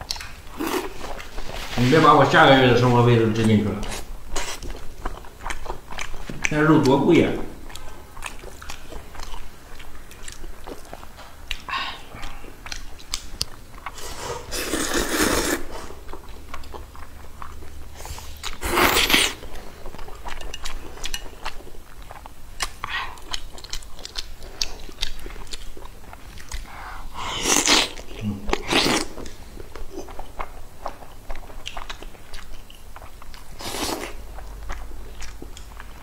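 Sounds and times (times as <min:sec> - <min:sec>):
person chewing food: 0:00.0 - 0:01.6, 0:03.3 - 0:07.0, 0:07.6 - 0:36.0.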